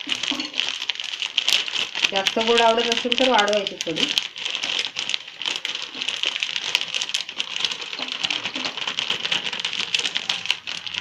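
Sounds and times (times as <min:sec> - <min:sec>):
plastic bag crinkling: 0:00.0 - 0:11.0
sugar pouring into steel bowl: 0:00.0 - 0:11.0.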